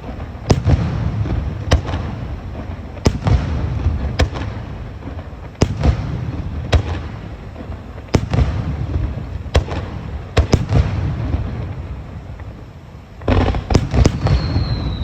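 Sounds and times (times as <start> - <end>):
fireworks bursting overhead: 0.0 - 15.0.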